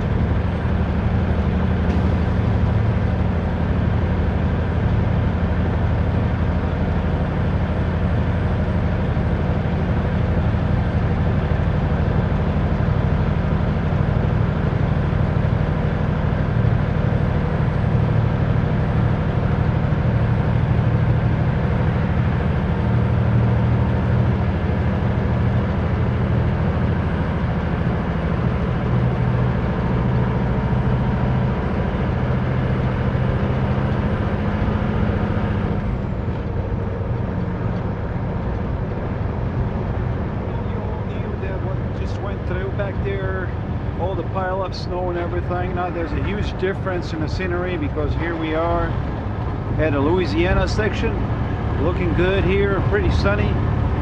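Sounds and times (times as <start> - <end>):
diesel truck engine droning: 0.0 - 54.0
road noise: 0.0 - 54.0.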